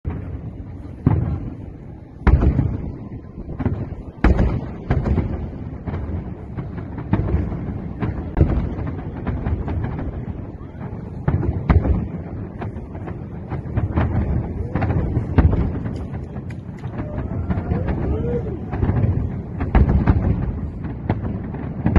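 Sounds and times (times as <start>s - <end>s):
fireworks bangs and booms: 0.0s - 21.9s.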